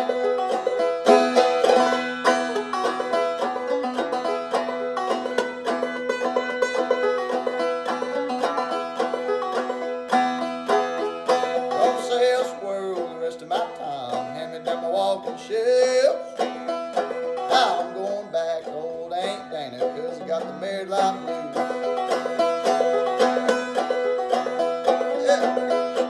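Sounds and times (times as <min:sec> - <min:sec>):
banjo playing blues tune: 0:00.0 - 0:26.0.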